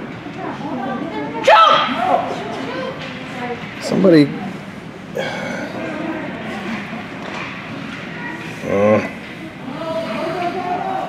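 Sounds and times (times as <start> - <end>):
ice rink noise: 0.0 - 11.0
murmur of talk: 0.0 - 11.0.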